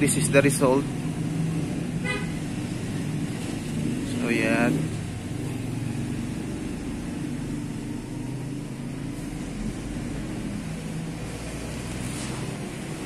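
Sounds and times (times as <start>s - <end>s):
scooter engine running: 0.8s - 11.6s.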